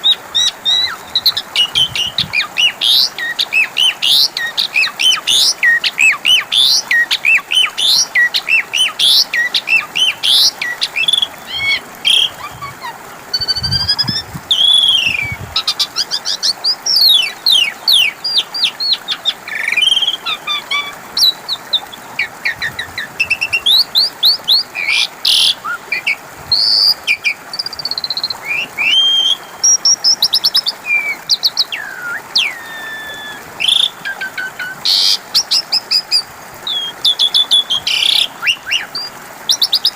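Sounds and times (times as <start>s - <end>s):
starling singing: 0.0s - 30.0s, 30.8s - 35.5s.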